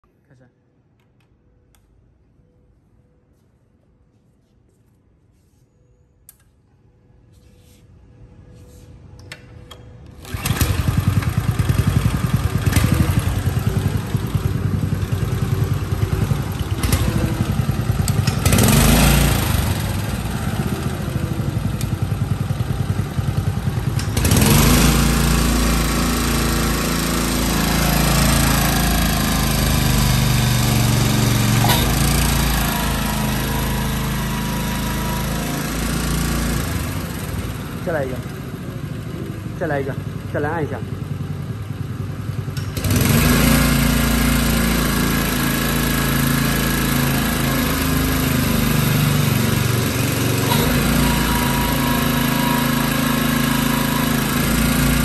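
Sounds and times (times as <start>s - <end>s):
small gasoline engine running: 10.2s - 55.0s.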